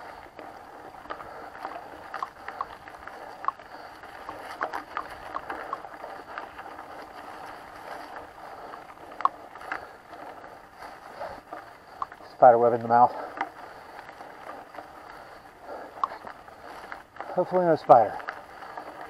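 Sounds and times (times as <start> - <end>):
bike clicks and rattles: 0.0 - 19.0
tyre and trail noise: 0.0 - 19.0.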